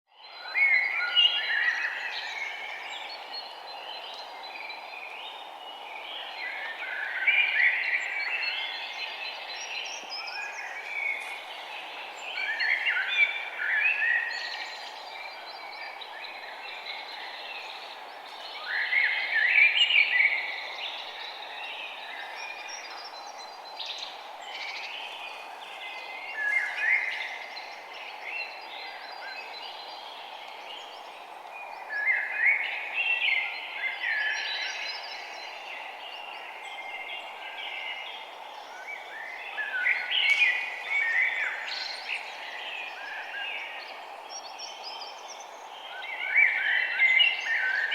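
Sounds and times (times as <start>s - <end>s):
songbirds chirping and singing: 0.1s - 47.9s
steady background hiss: 0.2s - 47.9s.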